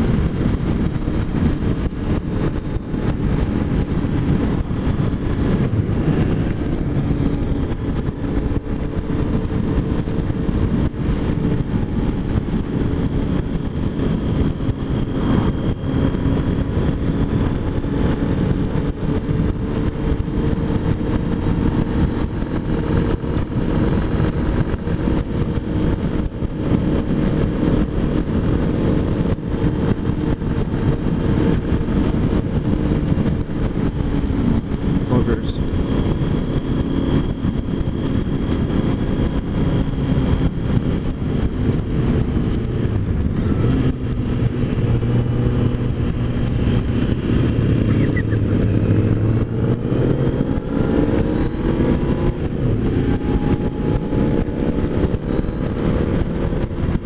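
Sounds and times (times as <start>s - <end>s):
motorcycle engine drone: 0.0s - 57.0s
wind buffeting microphone: 0.0s - 57.0s.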